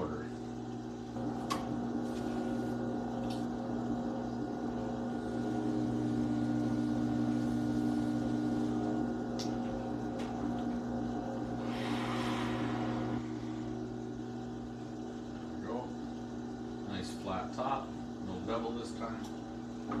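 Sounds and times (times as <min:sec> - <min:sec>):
potter's wheel motor humming: 0:00.0 - 0:20.0.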